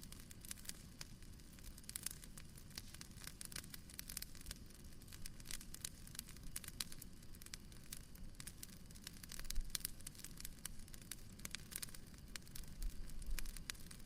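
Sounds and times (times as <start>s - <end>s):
fireplace crackling: 0.0s - 14.0s
low rumble of burning: 0.0s - 14.0s.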